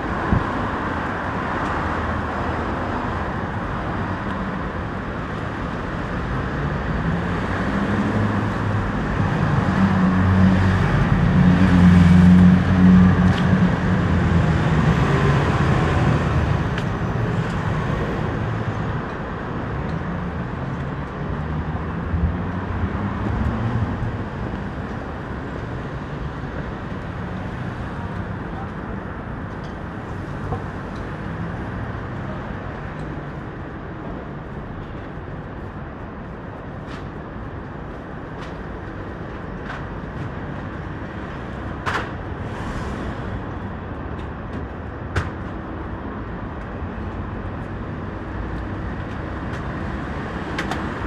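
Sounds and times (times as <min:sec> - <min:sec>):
passing cars: 0:00.0 - 0:51.0.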